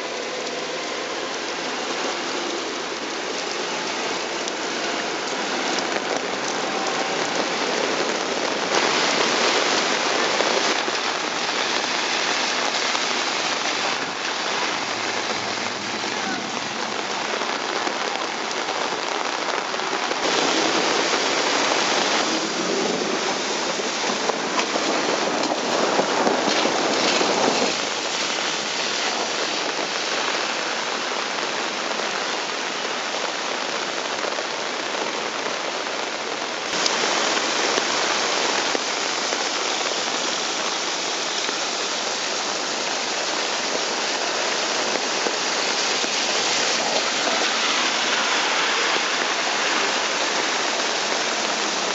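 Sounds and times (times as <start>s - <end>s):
heavy rain on pavement: 0.0s - 51.9s.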